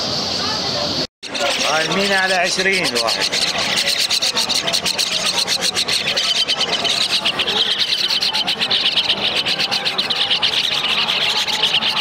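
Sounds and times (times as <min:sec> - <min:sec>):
mynas chattering and squawking: 0:01.2 - 0:12.0.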